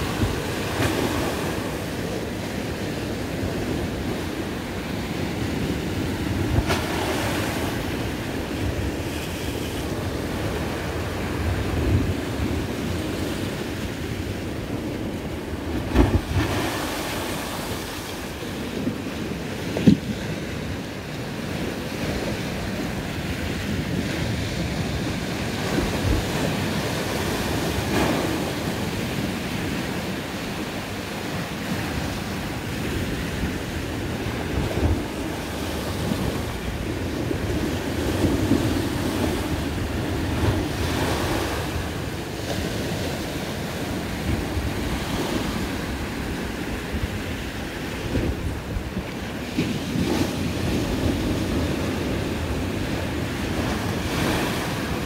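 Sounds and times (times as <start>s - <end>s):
waves breaking on concrete: 0.0s - 20.6s, 21.4s - 55.0s.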